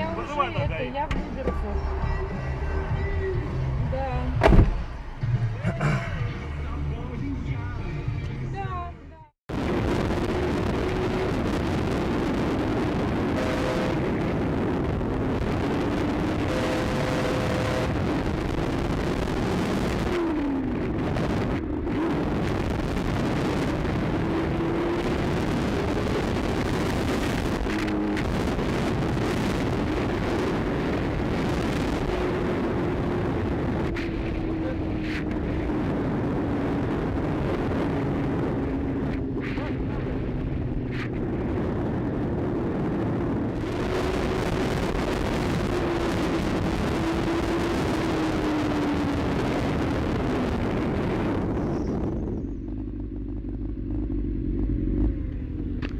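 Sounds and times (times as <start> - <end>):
road noise inside car: 0.0 - 8.6, 9.6 - 55.9
car engine: 0.0 - 55.9.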